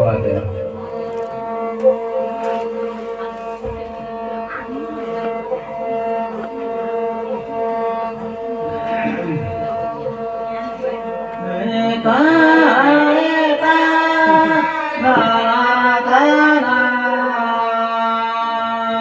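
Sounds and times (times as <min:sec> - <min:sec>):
droning bowed fiddle: 0:00.0 - 0:19.0.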